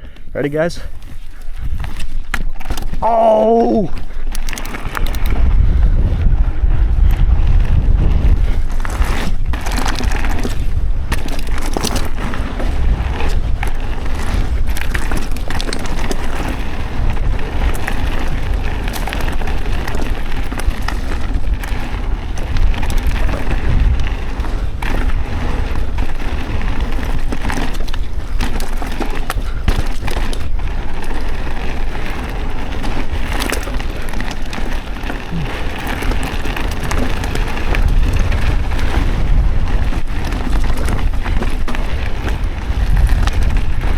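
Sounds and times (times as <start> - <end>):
bicycle tyres on dirt trail: 0.0 - 43.9
bike rattling: 0.0 - 43.9.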